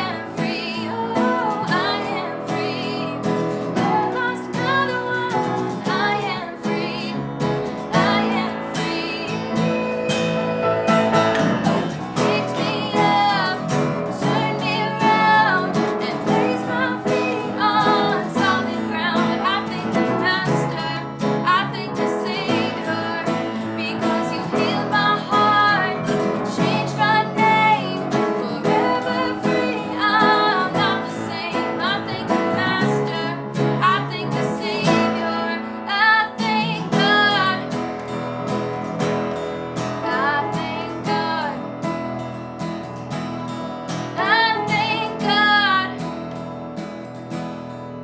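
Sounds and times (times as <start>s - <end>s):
woman singing: 0.0s - 37.9s, 40.0s - 41.8s, 44.1s - 46.2s
strummed acoustic guitar: 0.0s - 48.0s.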